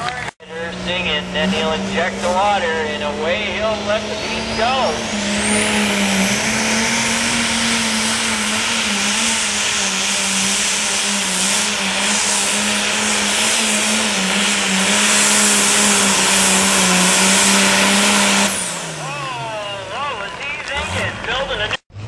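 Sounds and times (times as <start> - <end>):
high turbo whine: 0.0 - 22.0
tractor engine at full power: 0.0 - 22.0.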